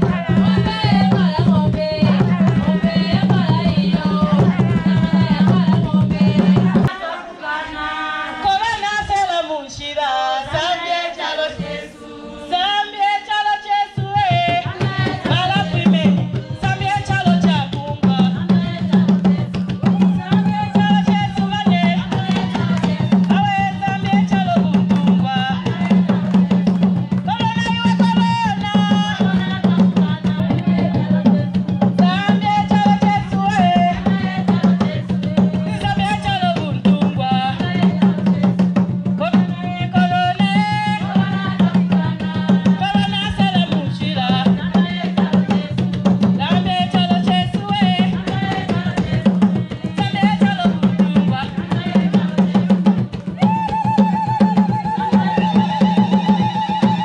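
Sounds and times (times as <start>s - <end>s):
wooden hand drums beating: 0.0s - 7.0s, 14.0s - 57.0s
woman singing into microphone: 0.0s - 57.0s.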